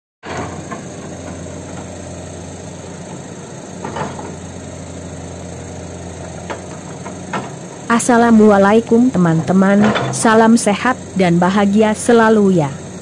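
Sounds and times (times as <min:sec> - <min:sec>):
excavator diesel engine running: 0:00.2 - 0:13.0.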